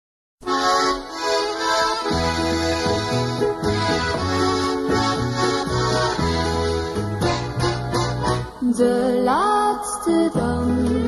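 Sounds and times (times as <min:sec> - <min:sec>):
instrumental music held chords: 0:00.4 - 0:11.0.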